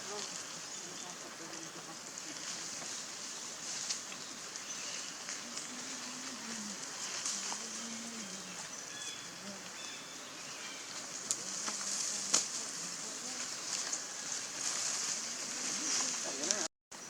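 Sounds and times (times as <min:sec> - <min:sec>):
distant voices: 0:00.0 - 0:16.7.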